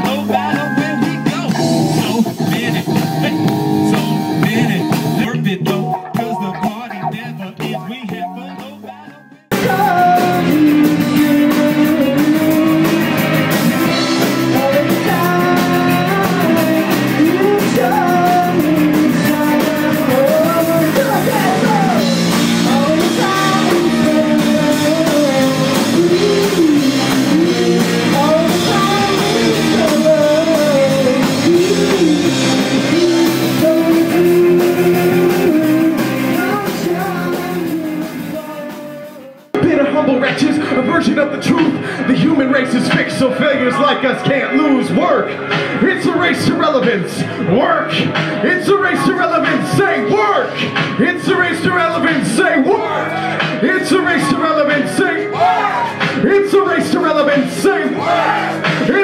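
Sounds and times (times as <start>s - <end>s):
rock band with guitar and drums: 0.0s - 59.0s.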